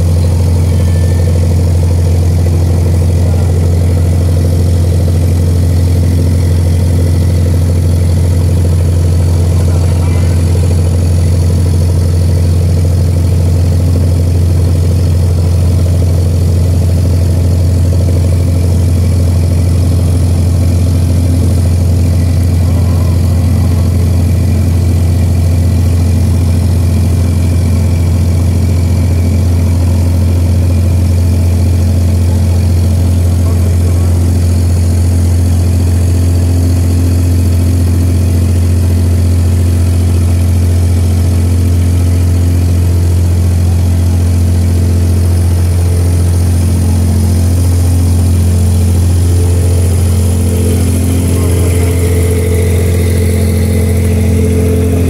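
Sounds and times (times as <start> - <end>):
higher humming tones: 0.0 - 41.0, 41.6 - 55.0
engine low drone: 0.0 - 55.0.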